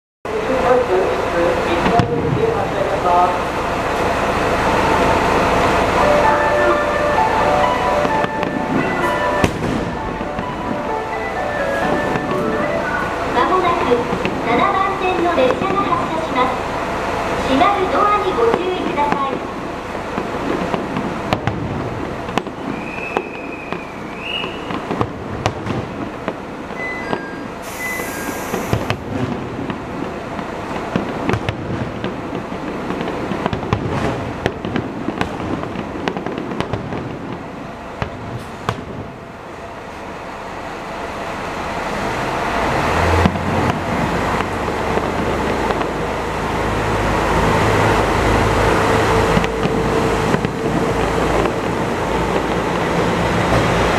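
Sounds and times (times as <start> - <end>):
diesel train accelerating: 0.3 - 33.5, 36.8 - 53.9
fireworks bangs and crackles: 0.3 - 41.0, 41.6 - 53.9.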